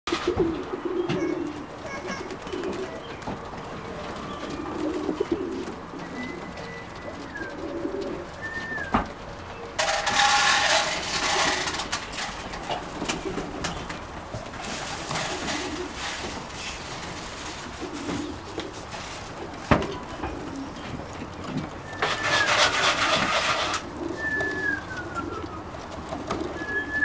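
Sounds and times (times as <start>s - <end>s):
pigeons cooing: 0.1s - 27.0s
wings flapping: 0.1s - 27.0s.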